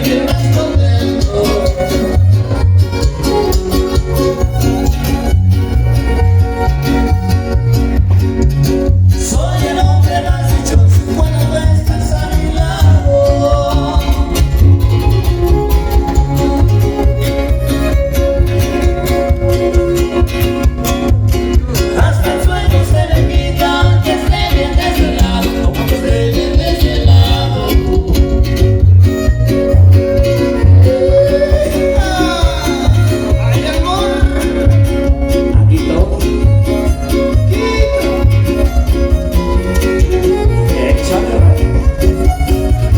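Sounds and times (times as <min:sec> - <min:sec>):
heavy bass beat: 0:00.0 - 0:42.9
latin music over sound system: 0:00.0 - 0:42.9
sliding melody lines: 0:00.0 - 0:42.9.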